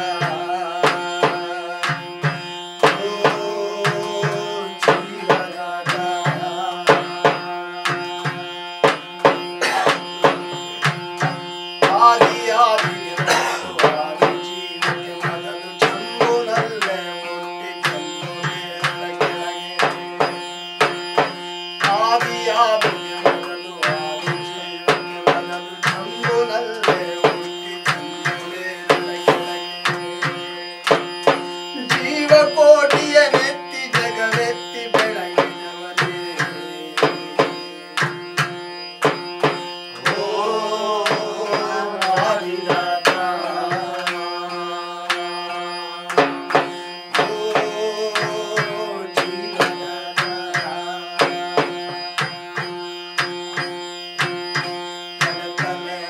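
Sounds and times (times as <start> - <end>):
melody line: 0.0 - 56.0
string instrument drone: 0.0 - 56.0.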